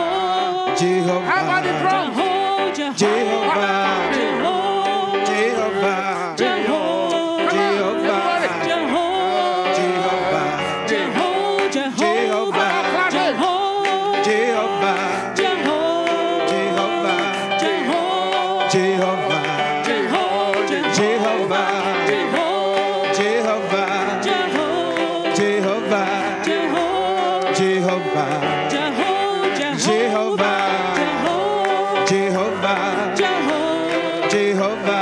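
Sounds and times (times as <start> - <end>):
church praise music: 0.0 - 35.0.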